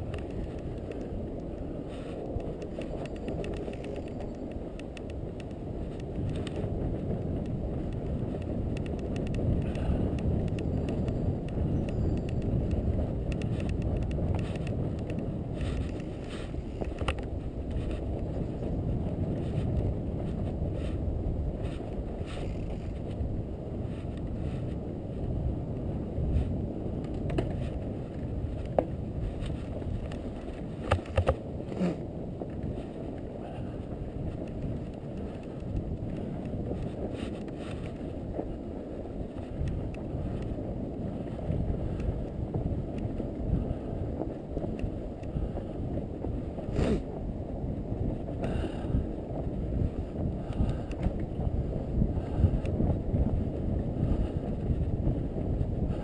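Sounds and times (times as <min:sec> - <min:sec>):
bike clicks and rattles: 0:00.0 - 0:56.0
wide tyres rolling through snow: 0:00.0 - 0:56.0
wind on microphone: 0:00.0 - 0:56.0.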